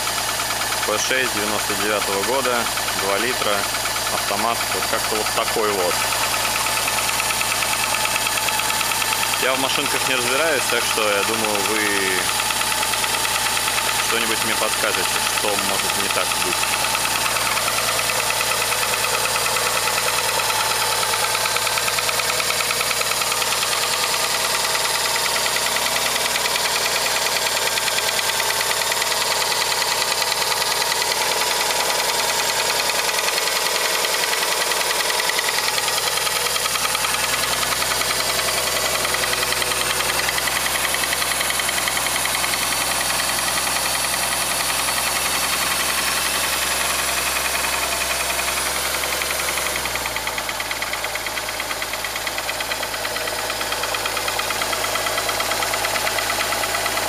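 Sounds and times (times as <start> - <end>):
car engine idling: 0.0 - 57.0
rapid engine knock: 0.0 - 57.0.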